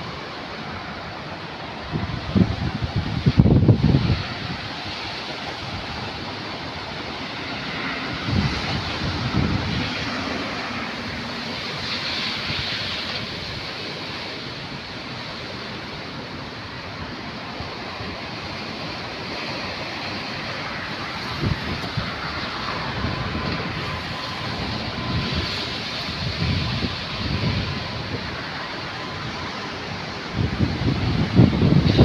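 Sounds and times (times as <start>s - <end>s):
strong wind rushing: 0.0s - 32.0s
wind buffeting microphone: 0.0s - 32.0s.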